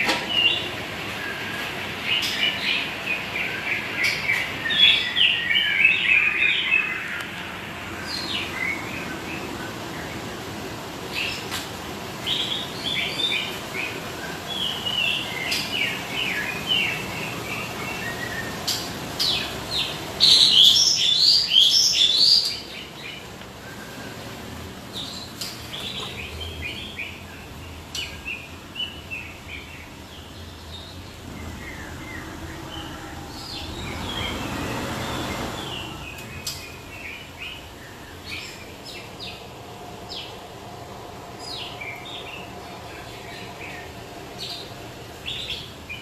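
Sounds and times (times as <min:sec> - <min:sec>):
songbirds chirping and twittering: 0:00.0 - 0:46.0.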